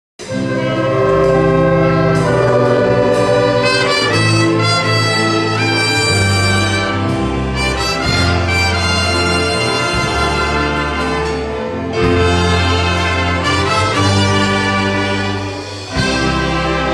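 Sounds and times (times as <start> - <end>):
brass chords: 0.2 - 16.9
orchestra playing: 0.2 - 16.9.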